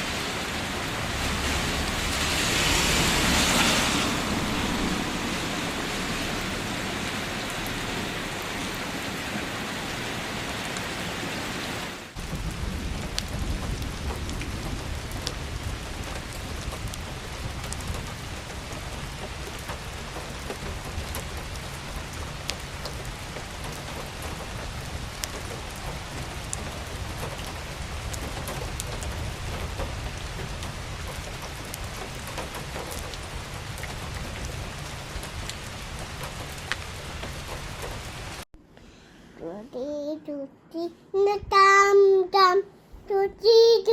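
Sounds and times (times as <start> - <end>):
steady rain falling: 0.0 - 38.5.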